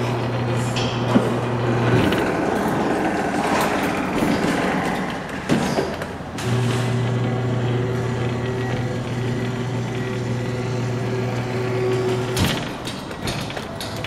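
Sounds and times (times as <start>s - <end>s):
claw machine whirring: 0.0s - 14.0s
machine hum: 0.0s - 14.0s.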